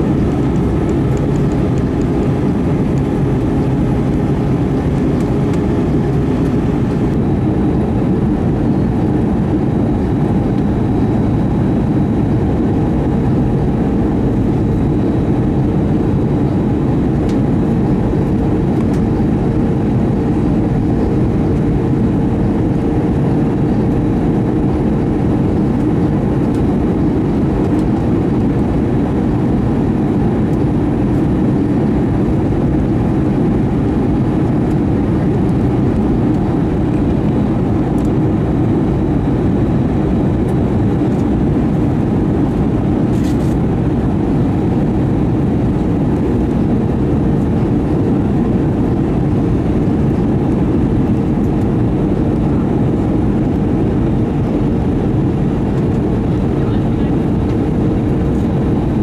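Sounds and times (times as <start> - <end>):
jet engine hum: 0.0 - 59.0
rushing airflow: 0.0 - 59.0.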